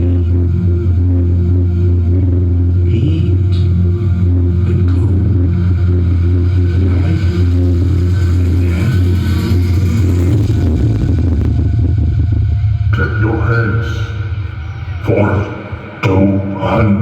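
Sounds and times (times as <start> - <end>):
loud distorted dance music: 0.0 - 17.0.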